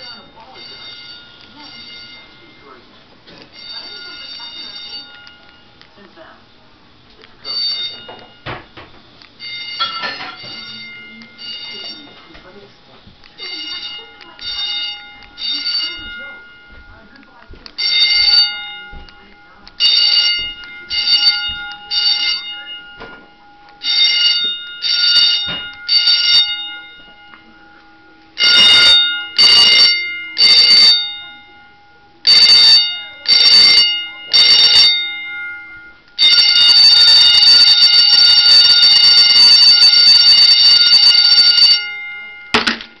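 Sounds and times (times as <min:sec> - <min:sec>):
electric school bell ringing: 0:00.0 - 0:02.8, 0:03.5 - 0:05.8, 0:07.4 - 0:08.8, 0:09.4 - 0:12.7, 0:13.3 - 0:43.0.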